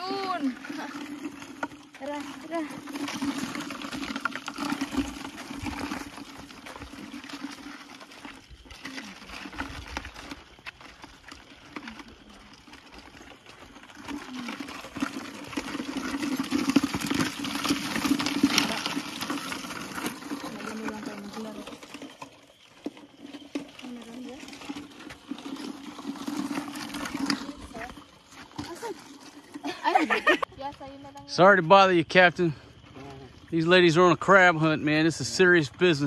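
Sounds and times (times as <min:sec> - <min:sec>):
footsteps on wet sand and stones: 0:00.0 - 0:30.5.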